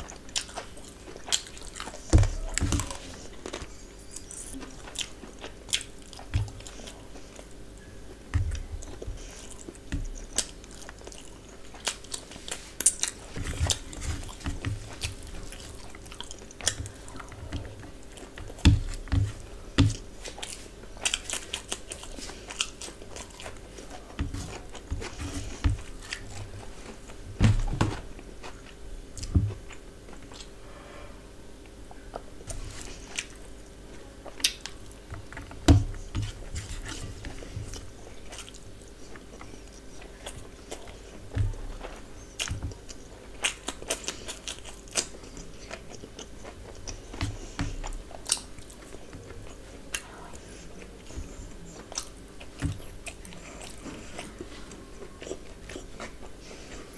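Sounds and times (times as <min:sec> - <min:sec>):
chewing and lip-smacking: 0:00.0 - 0:27.2, 0:31.9 - 0:56.9
faint steady hum: 0:00.0 - 0:56.9.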